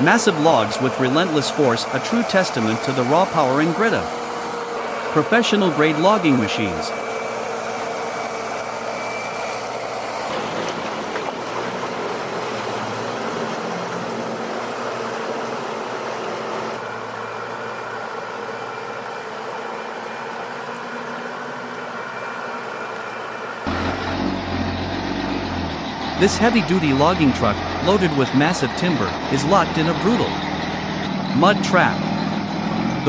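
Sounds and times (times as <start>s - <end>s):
heavy vehicle engine running: 0.0s - 33.0s.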